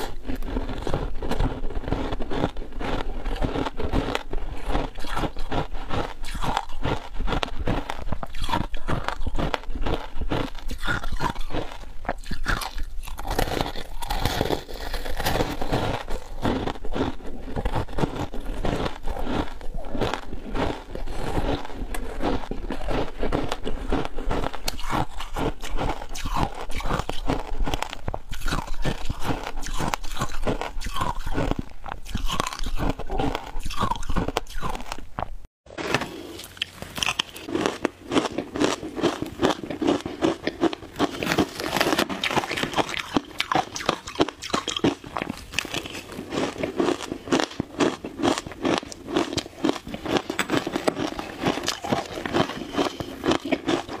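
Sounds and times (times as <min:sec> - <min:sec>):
chewing crunchy shaved ice: 0:00.0 - 0:54.0.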